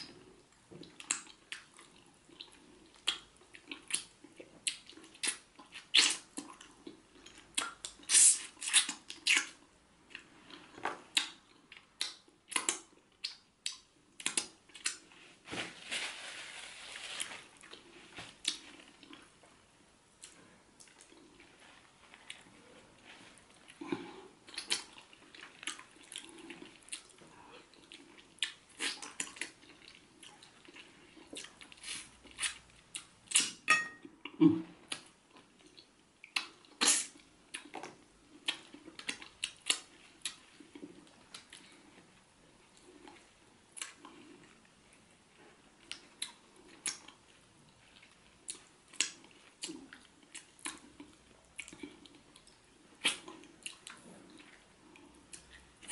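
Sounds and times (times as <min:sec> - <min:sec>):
person eating with wet smacks: 0:00.0 - 0:15.2, 0:20.2 - 0:42.0, 0:42.6 - 0:44.8, 0:45.8 - 0:55.9.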